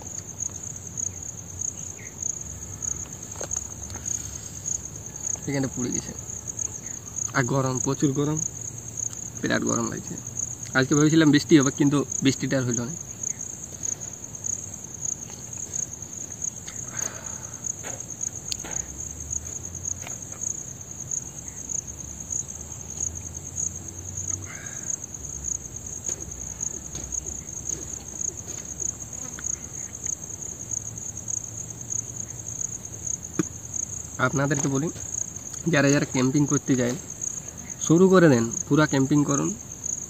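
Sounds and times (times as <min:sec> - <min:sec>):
crickets chirring: 0:00.0 - 0:40.0.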